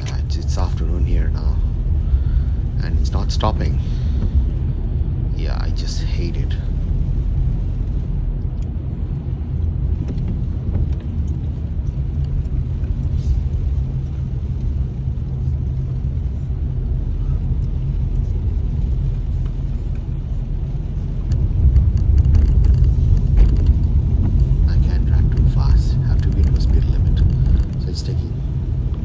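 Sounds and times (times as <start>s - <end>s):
car rumble inside cabin: 0.0s - 29.0s.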